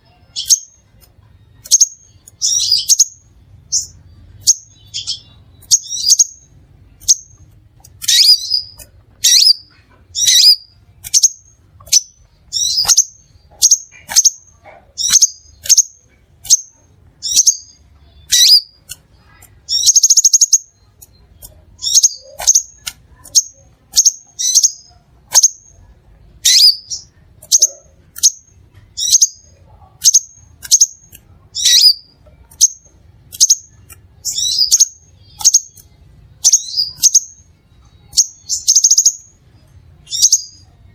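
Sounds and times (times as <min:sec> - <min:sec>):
buzzy bird trill: 0:00.0 - 0:40.8.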